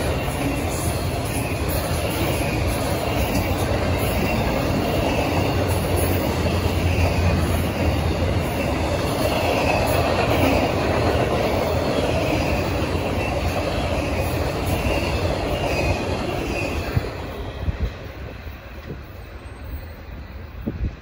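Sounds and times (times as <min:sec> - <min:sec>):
freight train wheels clattering: 0:00.0 - 0:19.8.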